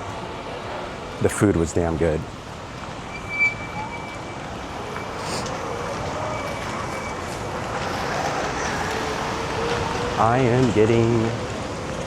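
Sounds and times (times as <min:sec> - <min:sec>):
rain hiss on city street: 0:00.0 - 0:12.0.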